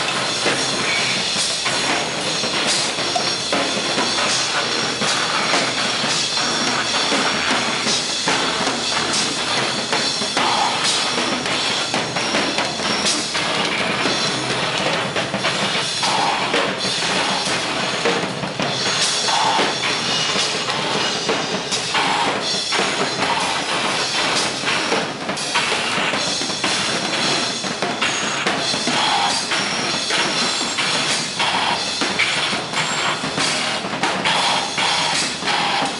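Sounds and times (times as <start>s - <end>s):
drum-like hits: 0.0s - 35.9s.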